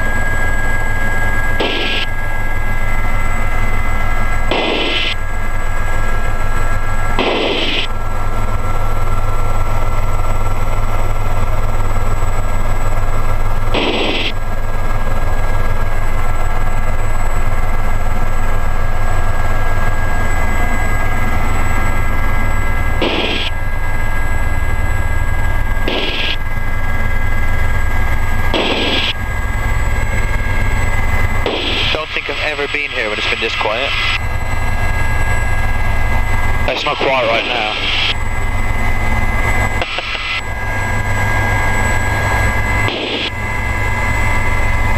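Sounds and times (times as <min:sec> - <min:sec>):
helicopter turbine and rotors: 0:00.0 - 0:44.9.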